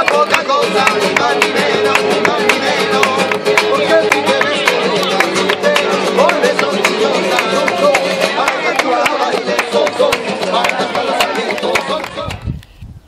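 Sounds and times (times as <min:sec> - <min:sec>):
flamenco on acoustic guitars: 0:00.0 - 0:12.5.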